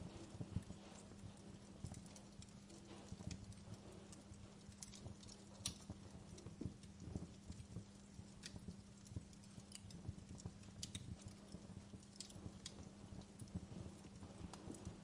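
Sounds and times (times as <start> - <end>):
steady low hum: 0.0 - 15.0
wood fire crackling: 0.0 - 15.0.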